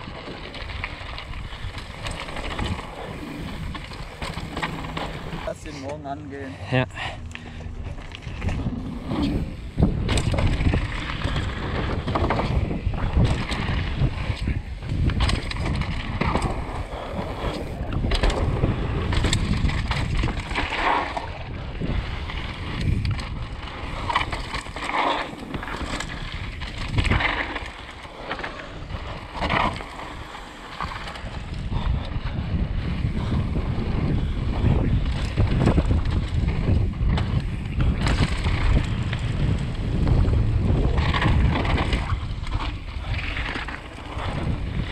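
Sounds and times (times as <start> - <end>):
wind rushing over microphone: 0.0 - 5.7, 6.6 - 27.9, 28.6 - 44.9
bike rattling over bumps: 0.0 - 44.9
bike tyres rolling on gravel: 0.0 - 44.9.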